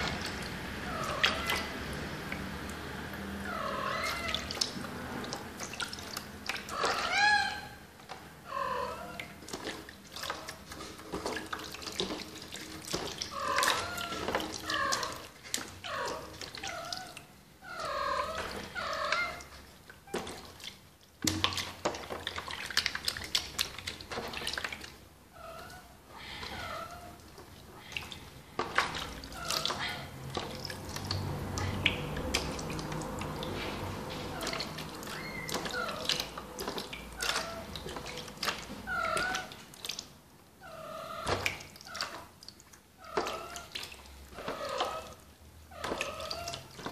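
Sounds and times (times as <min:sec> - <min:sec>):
water splashing in a plastic basin: 0:00.0 - 0:46.9.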